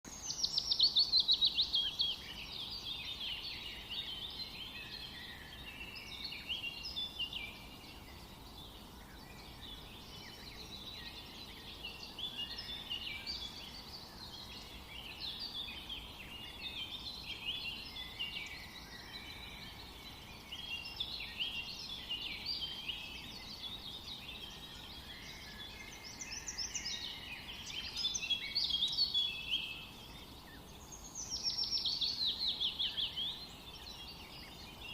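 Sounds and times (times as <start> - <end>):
songbirds chirping and singing: 0.0 - 34.9.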